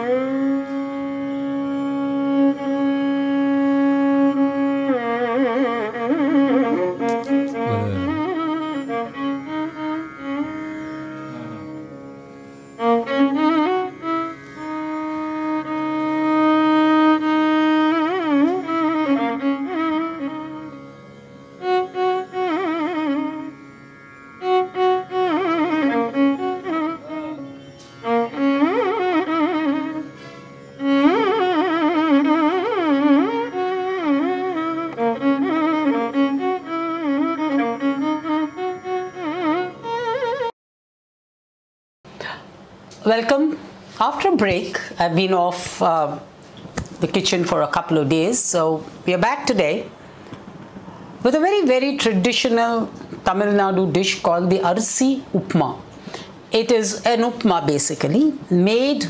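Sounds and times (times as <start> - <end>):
bowed string instrument melody: 0.0 - 40.5, 42.9 - 59.0.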